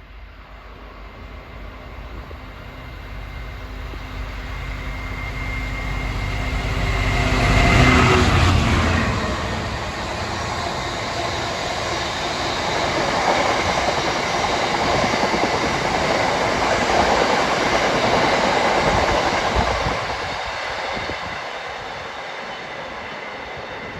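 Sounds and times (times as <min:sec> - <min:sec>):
freight train rolling past: 0:00.0 - 0:23.9.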